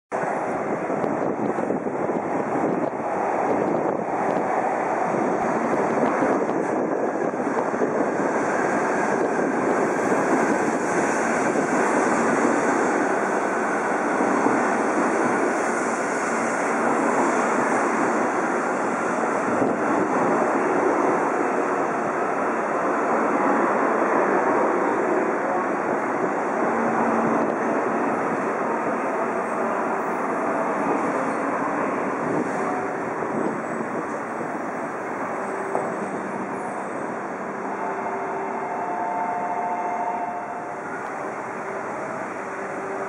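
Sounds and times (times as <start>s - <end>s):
train wheels and rushing air: 0.1s - 43.0s.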